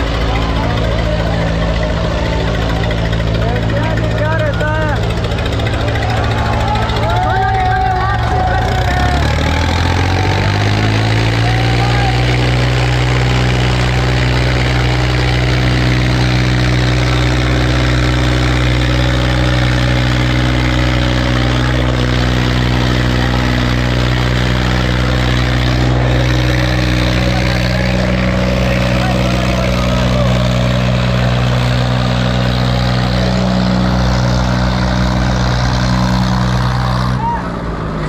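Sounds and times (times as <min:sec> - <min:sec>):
tractor diesel engines straining: 0:00.0 - 0:38.0.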